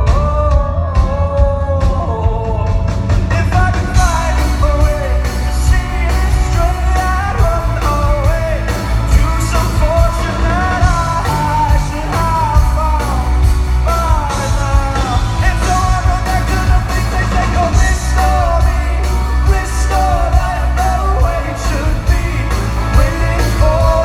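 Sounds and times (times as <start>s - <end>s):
heavy bass: 0.0s - 24.0s
live rock band playing: 0.0s - 24.0s
man singing: 0.0s - 24.0s
steady drums: 0.0s - 24.0s.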